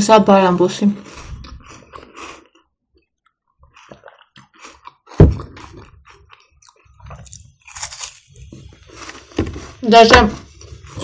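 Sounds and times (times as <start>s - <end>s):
soft chewing: 0.8s - 9.8s.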